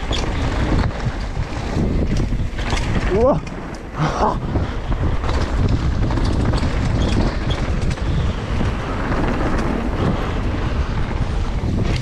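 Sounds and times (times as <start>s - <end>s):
bike knocks and rattles: 0.0s - 12.0s
wind rushing over microphone: 0.0s - 12.0s.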